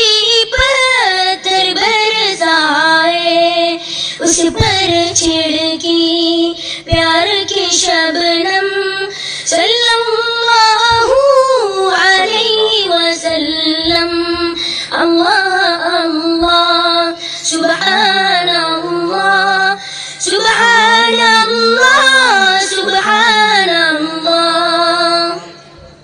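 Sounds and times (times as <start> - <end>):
boy singing: 0.0 - 25.6.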